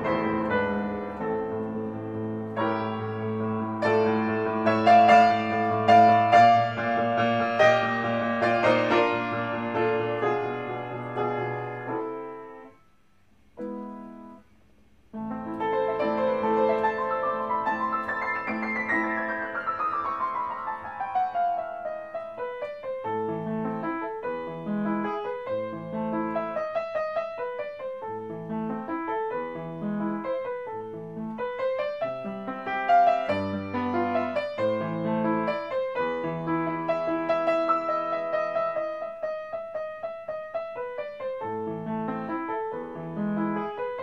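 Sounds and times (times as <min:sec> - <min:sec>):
background piano music: 0:00.0 - 0:13.0, 0:15.2 - 0:44.0.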